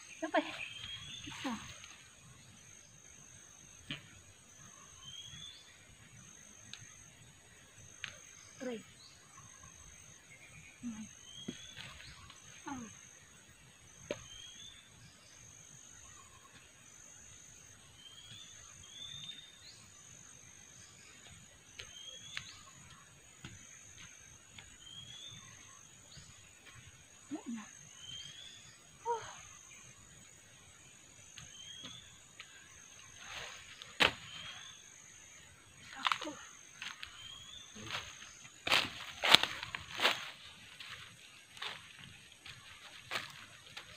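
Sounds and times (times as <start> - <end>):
high pulsing insect drone: 0.0 - 43.9.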